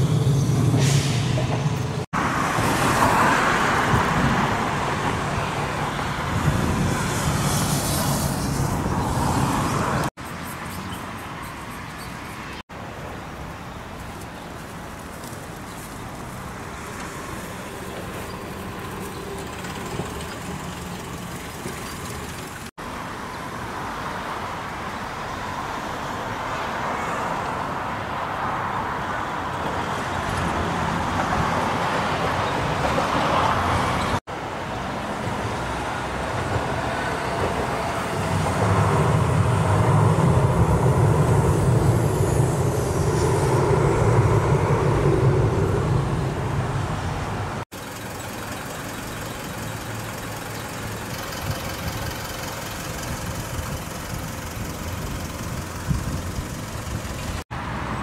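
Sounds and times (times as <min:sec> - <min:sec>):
road traffic noise: 0:00.0 - 0:58.0
streetcar low rumble: 0:00.0 - 0:58.0.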